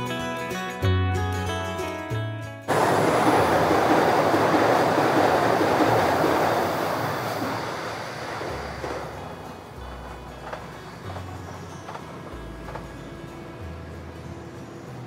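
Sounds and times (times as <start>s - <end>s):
train passing close by: 2.7s - 15.0s.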